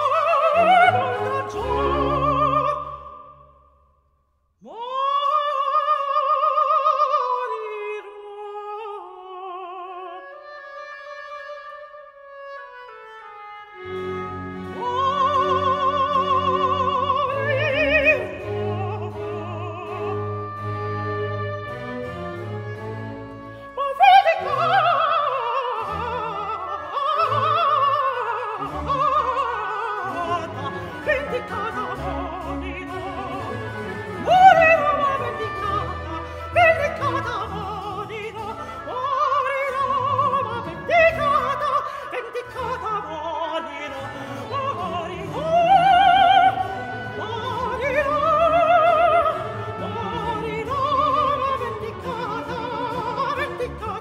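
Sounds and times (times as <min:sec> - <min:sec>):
woman singing opera: 0:00.0 - 0:03.4, 0:04.6 - 0:21.9, 0:23.6 - 0:54.0
string orchestra: 0:00.0 - 0:03.5, 0:04.7 - 0:54.0.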